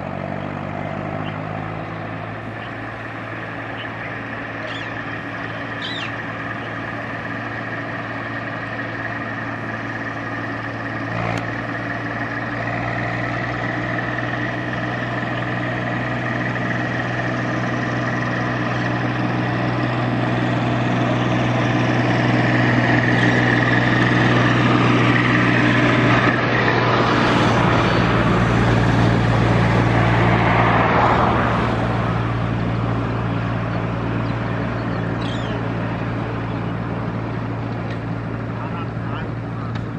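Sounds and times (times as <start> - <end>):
engine hum: 0.0 - 39.9
passing traffic rushing: 0.0 - 39.9.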